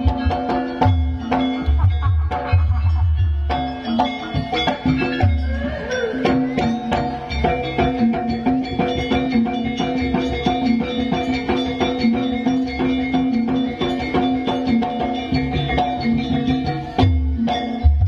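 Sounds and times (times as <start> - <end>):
drums: 0.0 - 18.0
tuned metal percussion: 0.0 - 18.0.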